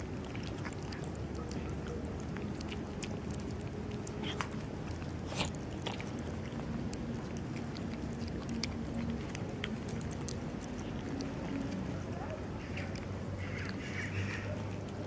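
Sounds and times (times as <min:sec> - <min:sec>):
background hum: 0:00.0 - 0:15.0
cats chewing food: 0:00.0 - 0:15.0.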